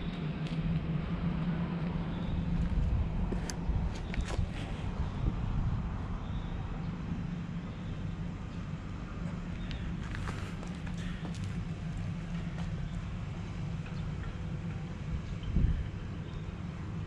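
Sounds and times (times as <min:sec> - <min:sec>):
constant hum: 0:00.0 - 0:17.0
low outdoor rumble: 0:00.0 - 0:17.0.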